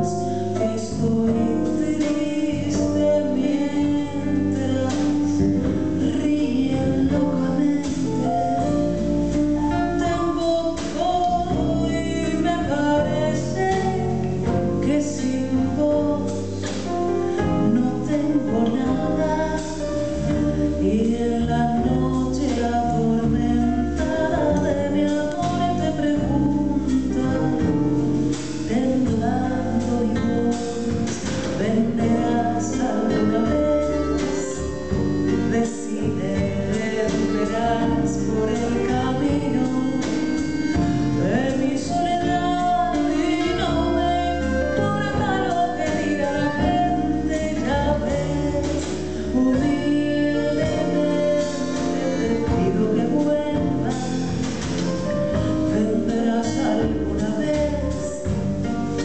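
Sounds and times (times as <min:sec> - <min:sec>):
instrumental accompaniment: 0:00.0 - 0:59.0
woman singing into a microphone: 0:00.0 - 0:59.0.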